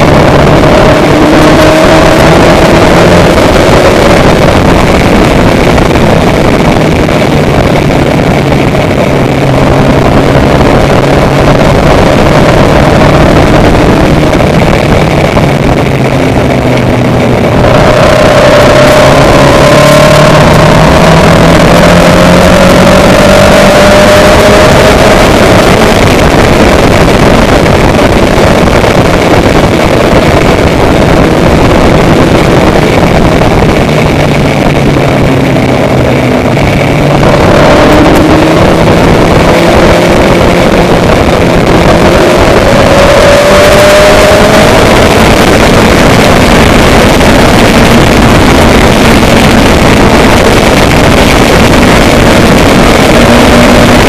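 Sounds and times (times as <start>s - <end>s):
loud engine running: 0.0s - 54.0s
wind buffeting microphone: 0.0s - 54.0s.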